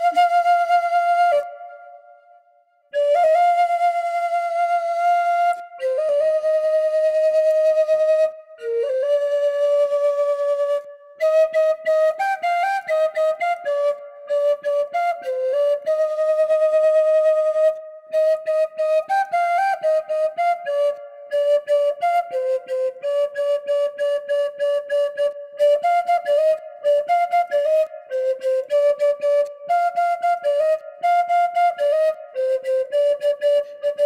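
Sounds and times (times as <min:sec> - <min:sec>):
bamboo flute melody: 0:00.0 - 0:34.0.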